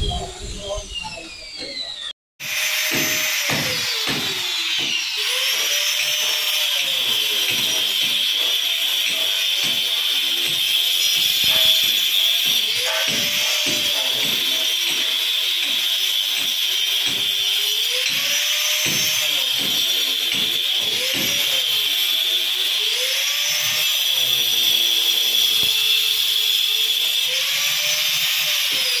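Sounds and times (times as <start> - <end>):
electric cutter cutting brick: 0.0 - 29.0.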